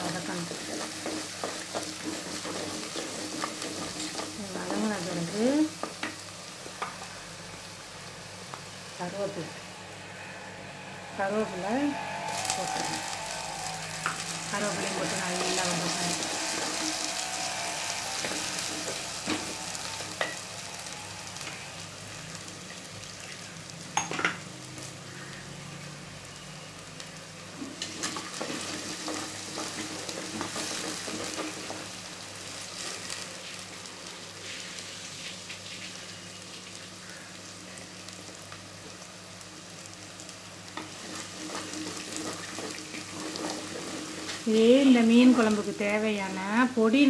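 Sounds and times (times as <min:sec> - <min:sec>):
onions sizzling in hot oil: 0:00.0 - 0:47.0.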